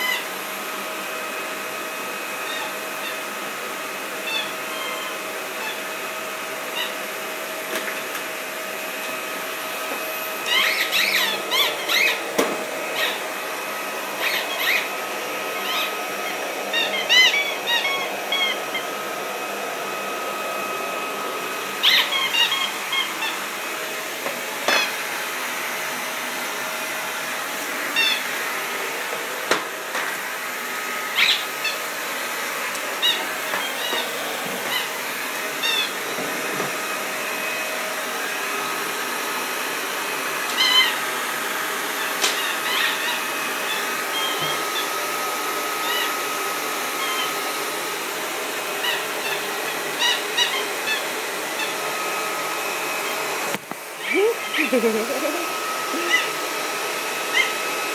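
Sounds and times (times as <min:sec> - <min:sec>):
vacuum cleaner humming: 0:00.0 - 0:57.9.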